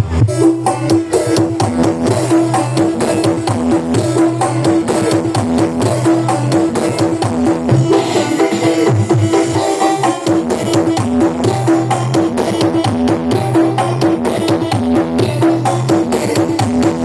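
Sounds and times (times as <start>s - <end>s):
heavy bass line: 0.0s - 17.0s
loud percussion-driven music: 0.0s - 17.0s
rapid drum beat: 0.0s - 17.0s.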